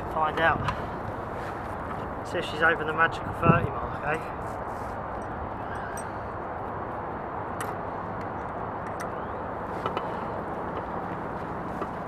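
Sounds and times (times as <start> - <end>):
distant motorway traffic rumble: 0.0 - 12.0.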